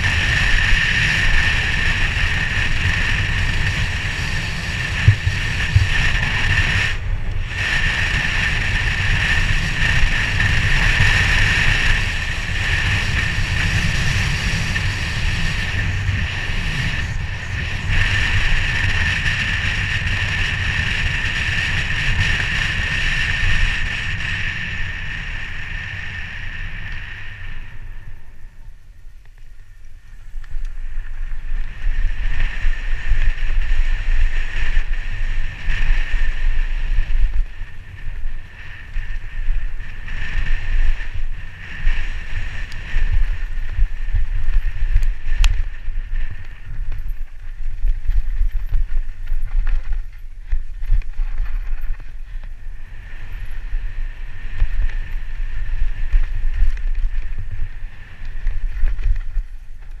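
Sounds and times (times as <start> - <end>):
high whir: 0.0 - 60.0
tyre and trail rumble: 0.0 - 60.0
wind buffeting microphone: 0.0 - 60.0.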